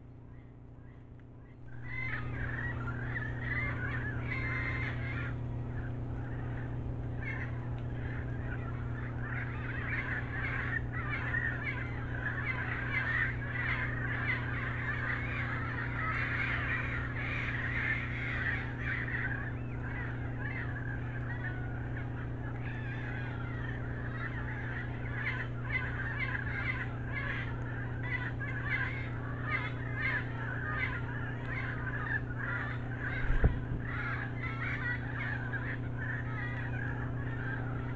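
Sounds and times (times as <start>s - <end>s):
steady low hum: 0.0s - 37.9s
chatter of calling creatures: 1.8s - 37.9s.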